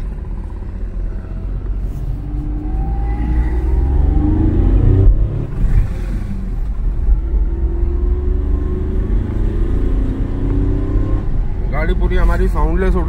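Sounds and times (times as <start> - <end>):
low rumble: 0.0 - 10.6
diesel engine accelerating: 0.0 - 13.0.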